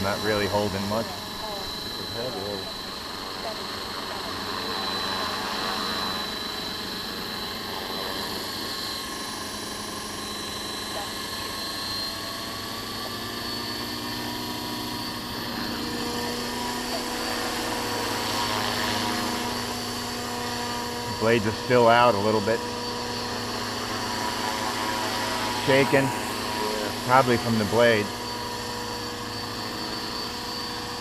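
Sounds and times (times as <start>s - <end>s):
model helicopter rotor whine: 0.0s - 31.0s.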